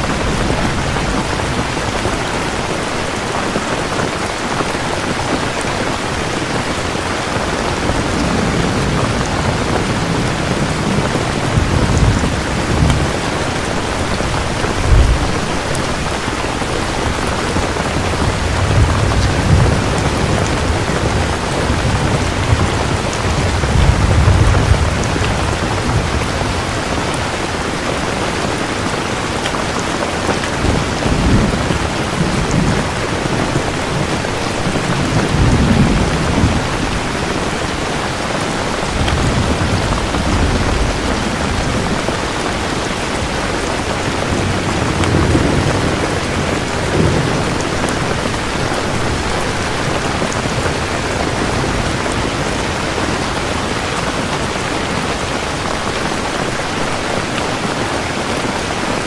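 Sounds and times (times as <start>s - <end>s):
thunder rumbling: 0.0s - 57.8s
heavy rain falling: 0.0s - 59.0s.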